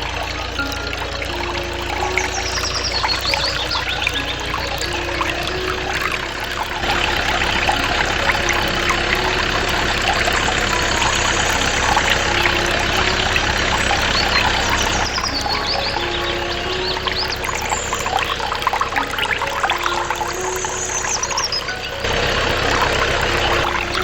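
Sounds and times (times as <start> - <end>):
water pouring and trickling: 0.0 - 24.0.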